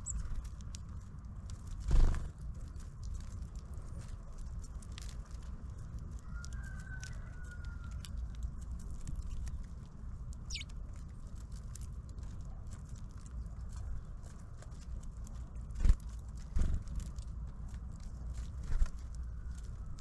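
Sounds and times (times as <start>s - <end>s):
steady low rumble: 0.0s - 6.3s, 7.8s - 20.0s
birds pecking and tapping: 0.0s - 20.0s.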